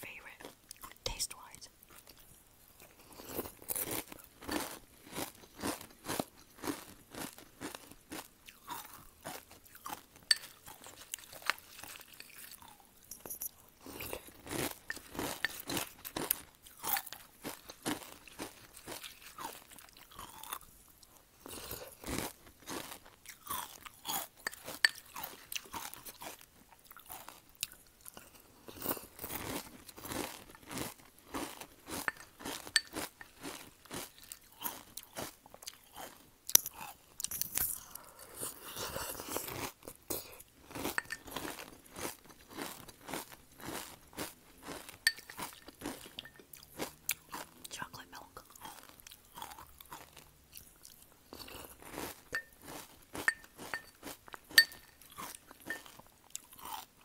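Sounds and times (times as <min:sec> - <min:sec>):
chewing crunchy cereal: 0:00.0 - 0:57.0.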